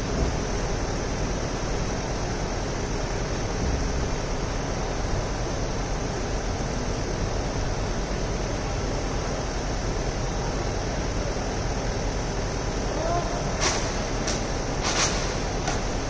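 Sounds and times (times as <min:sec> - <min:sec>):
city street ambience: 0:00.0 - 0:16.0.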